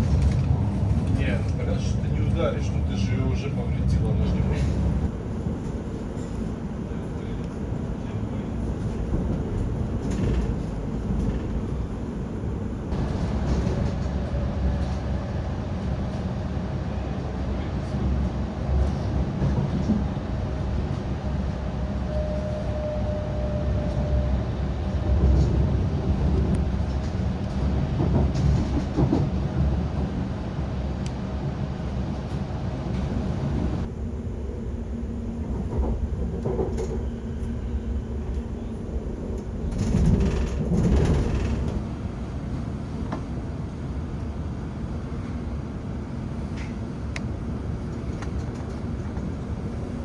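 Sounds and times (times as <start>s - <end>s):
train wheels rumbling on track: 0.0s - 50.0s.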